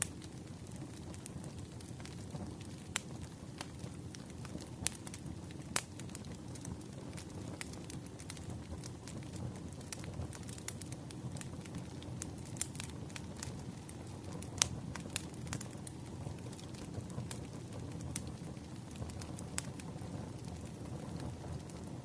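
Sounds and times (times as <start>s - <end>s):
campfire flames rumbling: 0.0s - 22.0s
wood crackling and popping: 0.0s - 22.0s.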